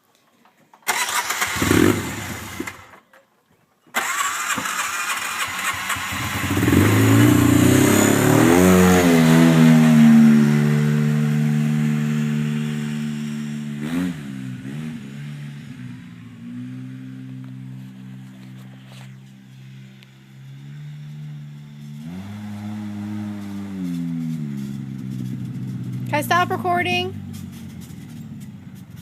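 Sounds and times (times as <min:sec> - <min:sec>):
engine starting and revving: 0:00.8 - 0:03.0, 0:04.0 - 0:29.0.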